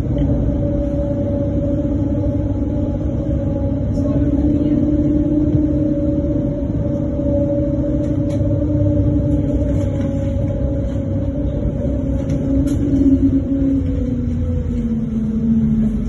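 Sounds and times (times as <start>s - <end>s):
tram rumbling along track: 0.0s - 16.0s
two-tone motor whine: 0.0s - 16.0s.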